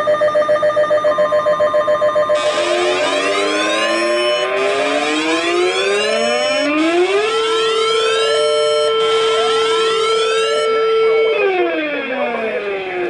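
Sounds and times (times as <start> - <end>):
warning sirens wailing: 0.0 - 13.0.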